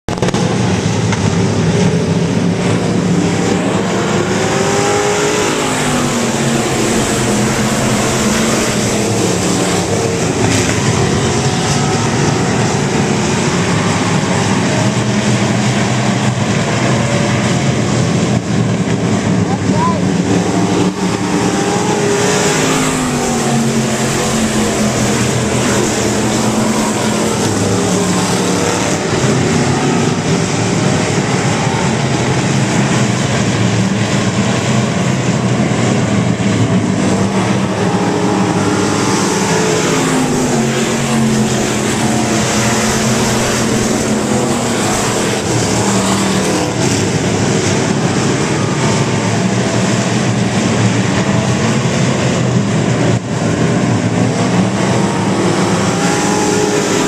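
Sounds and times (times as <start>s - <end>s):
race car engines passing: 0.1s - 57.0s.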